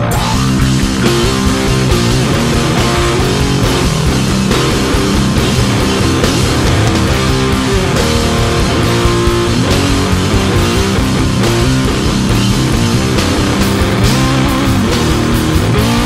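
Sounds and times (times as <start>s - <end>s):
guitar-led music: 0.0s - 16.0s.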